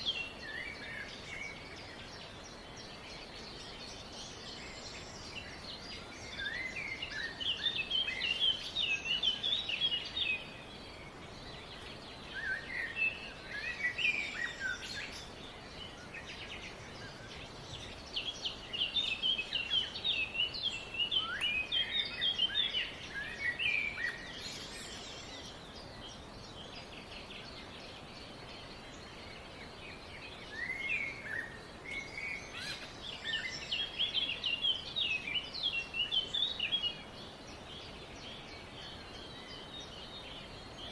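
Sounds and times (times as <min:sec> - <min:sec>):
songbirds chirping: 0:00.0 - 0:40.9
steady background hiss: 0:00.0 - 0:40.9.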